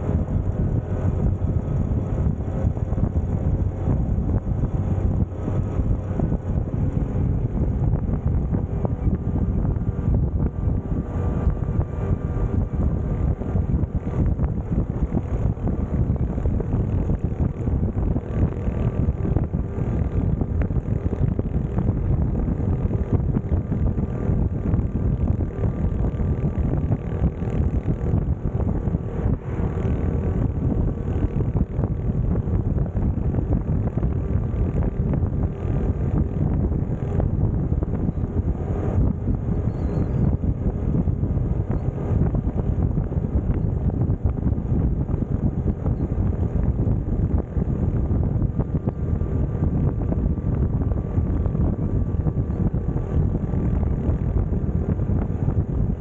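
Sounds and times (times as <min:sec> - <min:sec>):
motorcycle engine droning: 0:00.0 - 0:56.0
wind buffeting microphone: 0:00.0 - 0:56.0.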